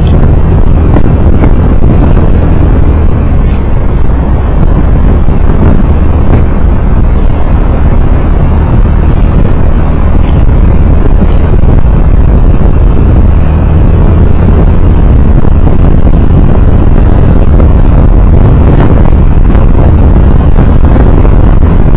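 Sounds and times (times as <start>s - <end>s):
road vehicle rumble: 0.0s - 21.9s.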